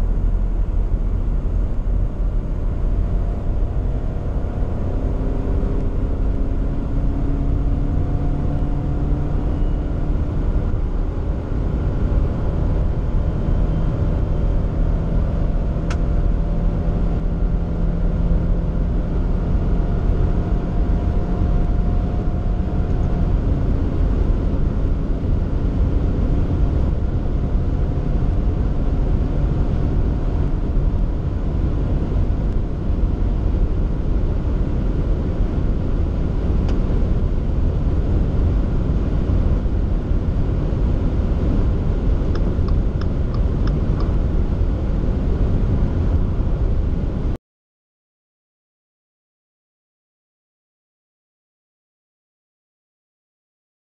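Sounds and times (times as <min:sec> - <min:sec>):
car engine at full throttle: 0:00.0 - 0:47.4
wind and tyre noise: 0:00.0 - 0:47.4.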